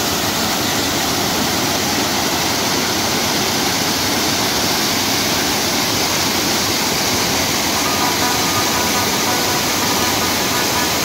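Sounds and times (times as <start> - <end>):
water rushing through culvert: 0.0 - 11.0.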